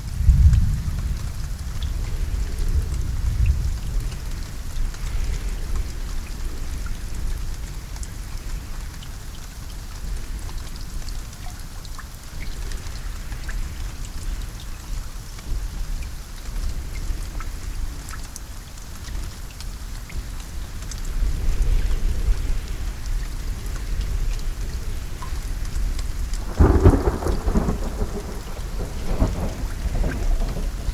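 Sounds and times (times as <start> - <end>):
rain falling: 0.0 - 30.9
raindrops ticking on a surface: 0.0 - 30.9.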